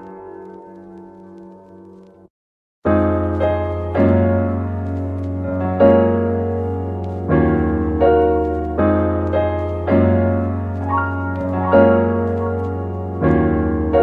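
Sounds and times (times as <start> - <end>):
slow piano chords: 0.0 - 2.3, 2.9 - 14.0.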